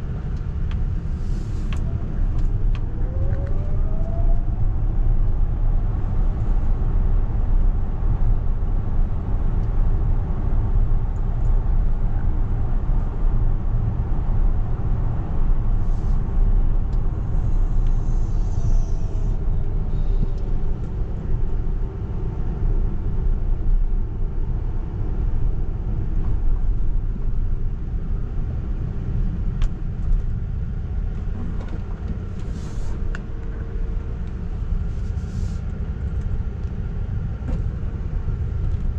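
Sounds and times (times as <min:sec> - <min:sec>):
road rumble and tyre noise: 0:00.0 - 0:38.9.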